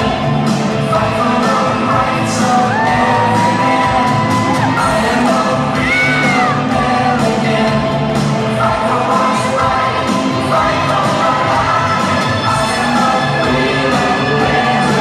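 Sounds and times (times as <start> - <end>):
loud song with steady beat: 0.0 - 15.0.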